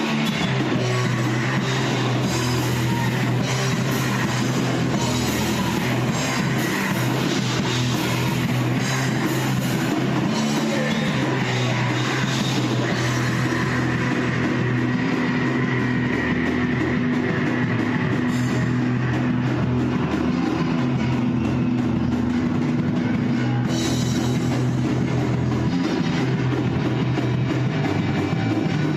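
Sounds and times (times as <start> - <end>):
distorted electric guitars: 0.0 - 28.9
drum kit with cymbals: 0.0 - 28.9.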